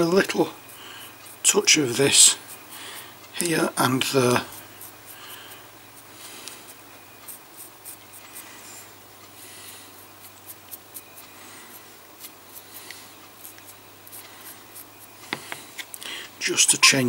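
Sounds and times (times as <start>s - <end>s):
dry brush scratching: 0.0s - 15.8s.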